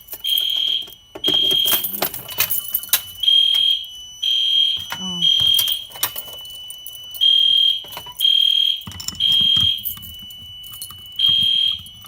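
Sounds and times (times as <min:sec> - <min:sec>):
faint steady alarm tone: 0:00.0 - 0:12.0
fire alarm beeping: 0:00.0 - 0:12.0.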